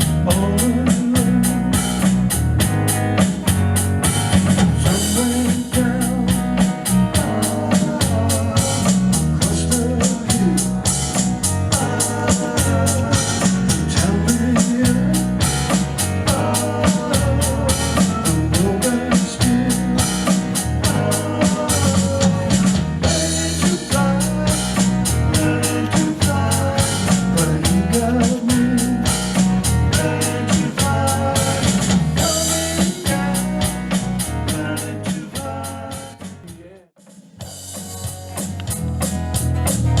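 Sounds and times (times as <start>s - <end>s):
bass line: 0.0s - 40.0s
drum kit beat: 0.0s - 40.0s
guitar: 0.0s - 40.0s.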